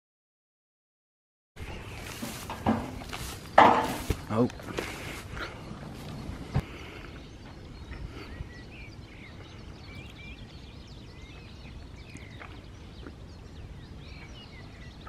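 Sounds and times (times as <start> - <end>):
small birds chirping: 1.6 - 15.0.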